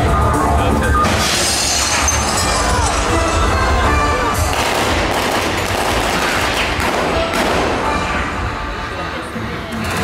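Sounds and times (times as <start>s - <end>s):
loud show music: 0.0s - 10.0s.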